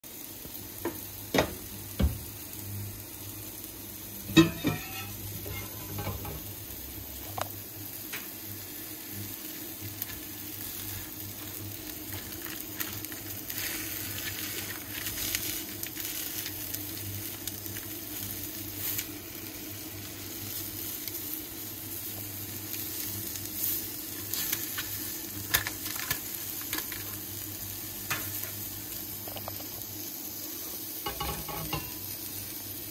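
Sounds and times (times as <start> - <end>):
fish sizzling in a pan: 0.0 - 32.9.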